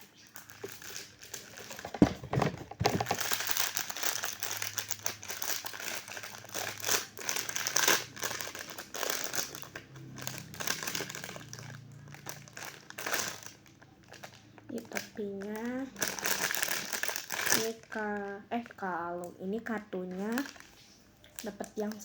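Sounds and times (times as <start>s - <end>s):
packaging crinkling and rustling: 0.0s - 19.2s, 20.0s - 22.0s.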